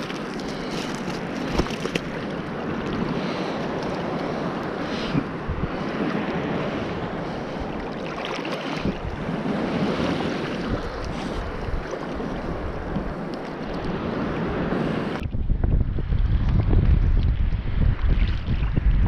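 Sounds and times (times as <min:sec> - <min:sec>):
sea surf washing on shore: 0:00.0 - 0:19.0
wind buffeting microphone: 0:00.0 - 0:19.0.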